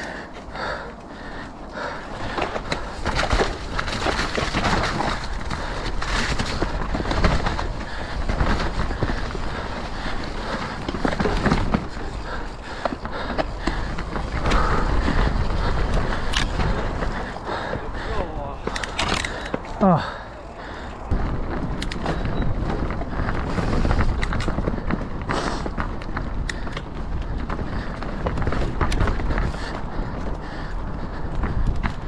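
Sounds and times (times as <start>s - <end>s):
bike rattling clicks: 0.0s - 32.0s
bike tyres rumbling on dirt: 0.0s - 32.0s
wind buffeting microphone: 0.0s - 32.0s.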